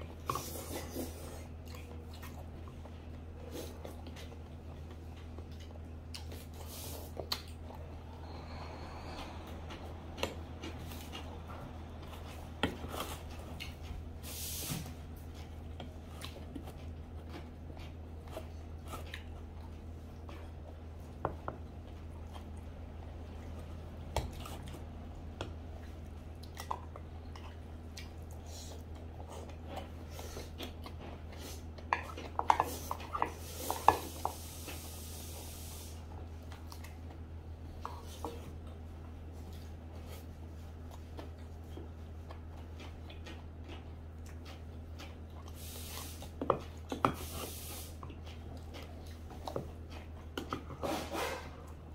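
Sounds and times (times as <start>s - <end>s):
person chewing: 0.0s - 51.9s
steady low hum: 0.0s - 51.9s.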